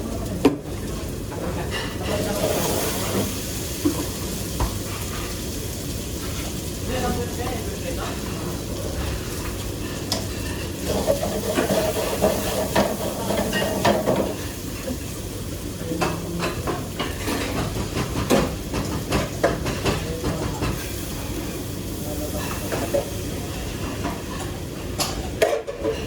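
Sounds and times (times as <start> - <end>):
dishes and utensils clinking: 0.4 - 5.4, 7.8 - 15.2, 15.8 - 26.0.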